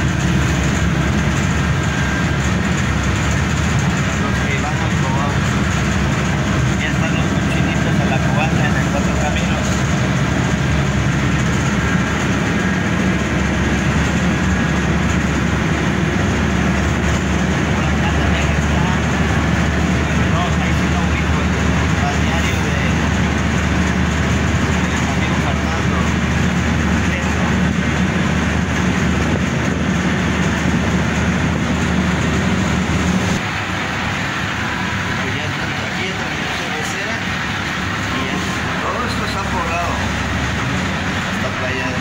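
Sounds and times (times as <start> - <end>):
bus engine drone: 0.0 - 42.0
road noise: 0.0 - 42.0.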